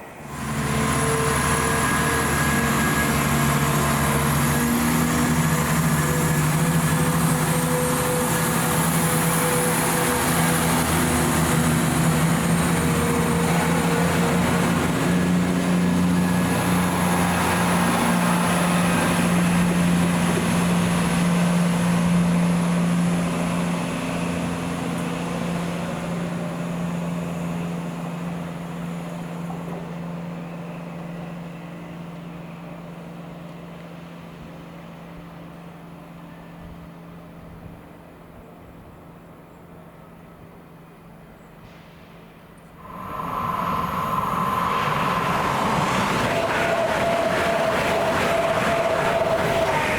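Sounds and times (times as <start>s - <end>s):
train running past: 0.0s - 38.2s, 38.9s - 49.9s.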